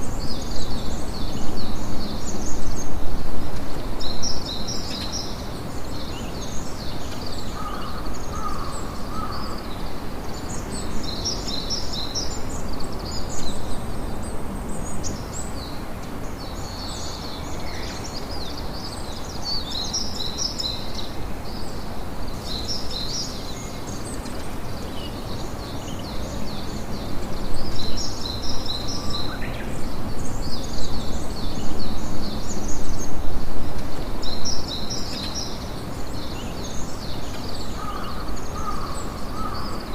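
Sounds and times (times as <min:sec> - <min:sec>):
steady background hiss: 0:00.0 - 0:39.9
birds chirping: 0:04.0 - 0:39.9.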